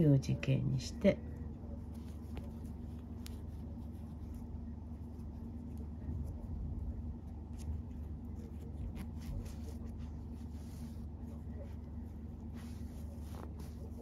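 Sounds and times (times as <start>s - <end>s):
steady low hum: 0.0s - 14.0s
cord rustling and scraping: 1.6s - 14.0s.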